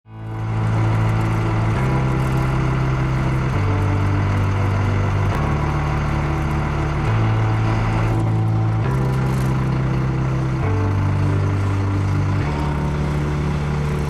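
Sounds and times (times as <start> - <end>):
background music with low notes: 0.1 - 14.0.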